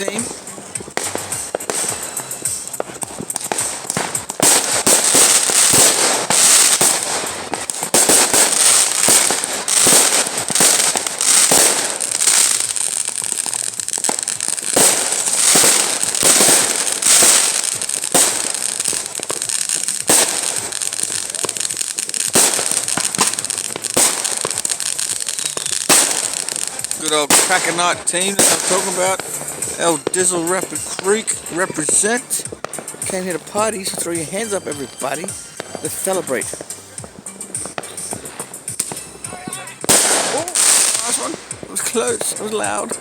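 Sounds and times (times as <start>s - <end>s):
firecrackers crackling: 0.0s - 43.0s.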